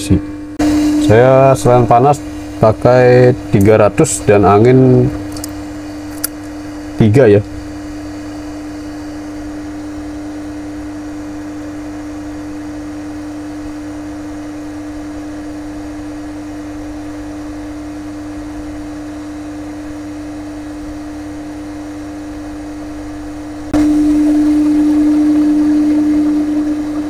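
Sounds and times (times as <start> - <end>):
hot air station blowing: 0.0 - 27.0.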